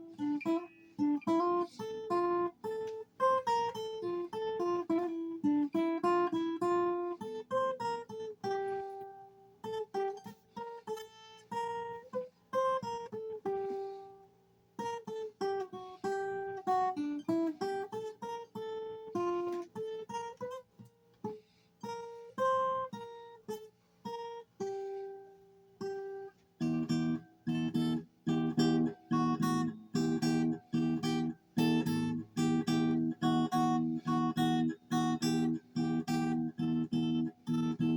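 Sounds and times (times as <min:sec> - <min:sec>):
acoustic guitar: 0:00.0 - 0:37.9.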